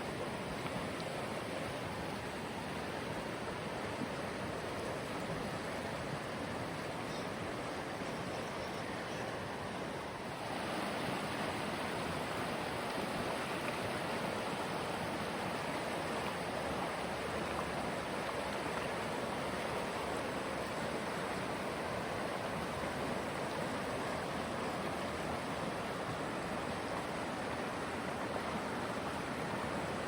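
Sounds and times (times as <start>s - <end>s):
fast-flowing river water: 0.0s - 30.0s.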